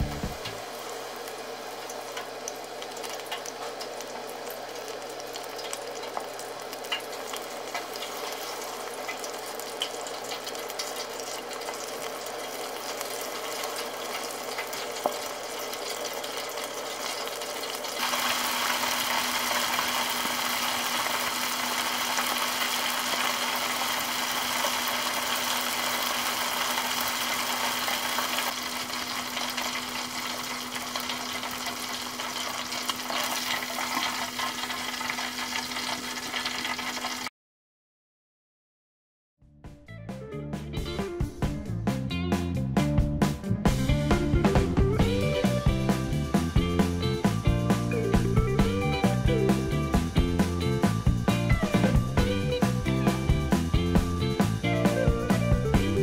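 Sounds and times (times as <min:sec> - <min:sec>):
food deep-frying in oil: 0:00.0 - 0:37.3, 0:43.7 - 0:56.0.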